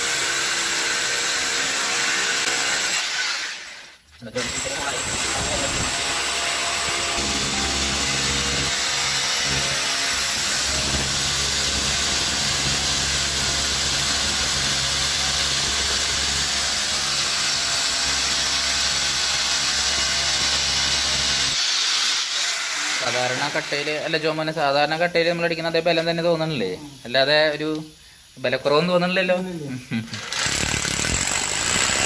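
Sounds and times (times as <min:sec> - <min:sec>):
electric drill boring into brick: 0:00.0 - 0:24.0, 0:30.2 - 0:32.0.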